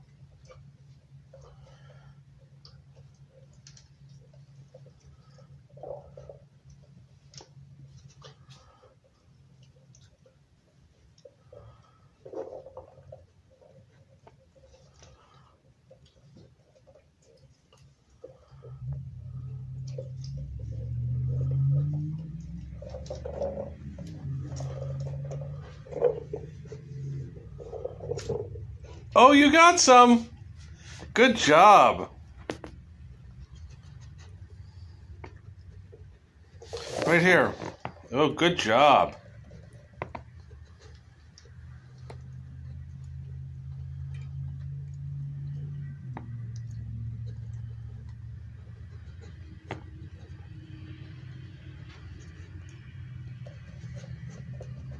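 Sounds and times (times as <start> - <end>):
puppy chewing plastic ball: 0.0 - 29.2, 32.0 - 54.9
low steady hum: 0.0 - 54.9.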